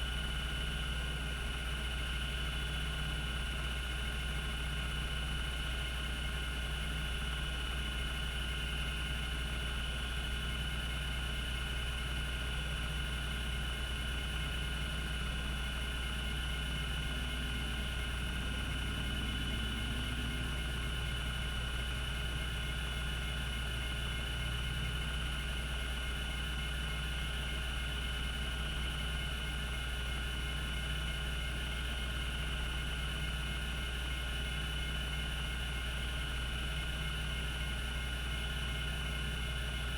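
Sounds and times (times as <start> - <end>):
hard disk spinning with whine: 0.0 - 39.9.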